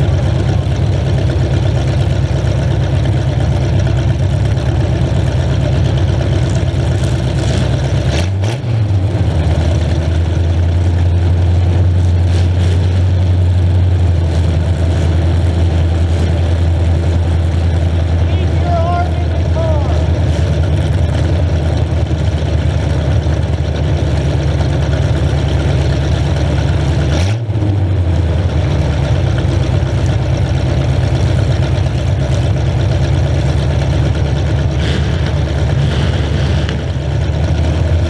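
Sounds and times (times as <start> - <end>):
car engine idling loudly: 0.0 - 38.0.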